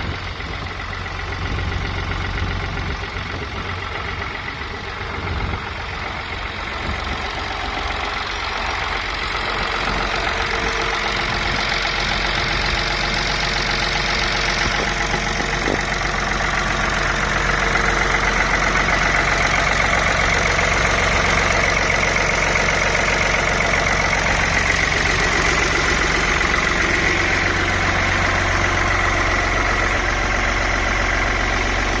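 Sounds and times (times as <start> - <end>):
tractor diesel engine idling: 0.0 - 32.0.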